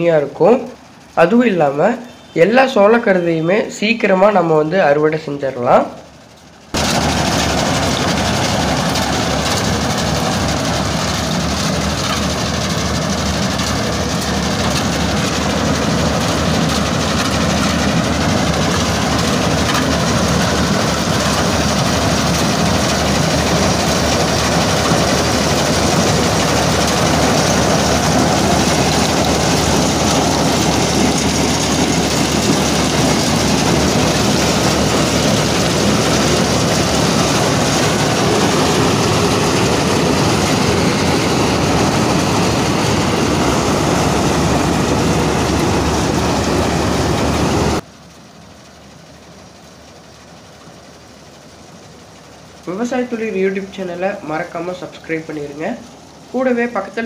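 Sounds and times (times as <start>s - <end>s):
harvester engine and machinery: 0.0s - 57.0s.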